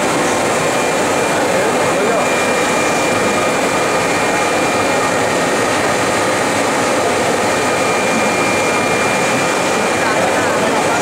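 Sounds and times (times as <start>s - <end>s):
loud machine drone: 0.0s - 11.0s
thin high whine: 0.0s - 11.0s.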